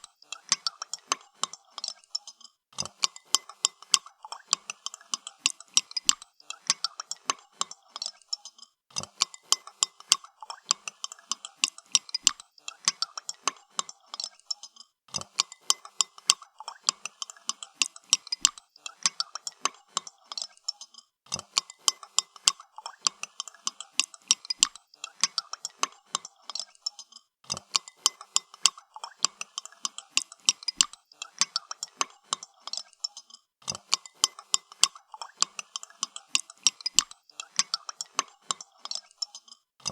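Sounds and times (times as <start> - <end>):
spoon clinking in a cup: 0.0 - 39.9.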